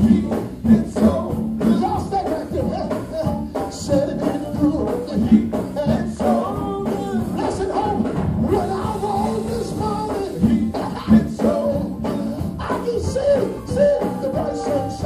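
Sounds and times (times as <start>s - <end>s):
gospel band playing: 0.0s - 15.0s
person singing: 0.0s - 15.0s.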